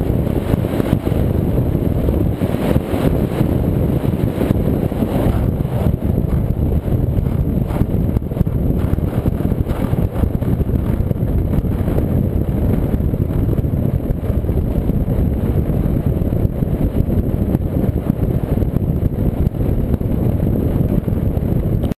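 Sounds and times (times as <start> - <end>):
powerboat engine and water rush: 0.0 - 22.0
wind buffeting microphone: 0.0 - 22.0.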